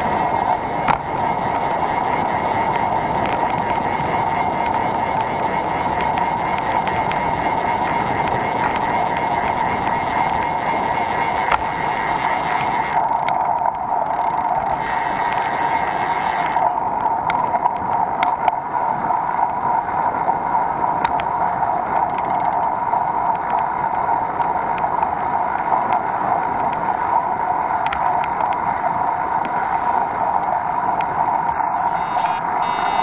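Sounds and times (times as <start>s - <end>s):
muffled wind and road noise: 0.0s - 32.9s.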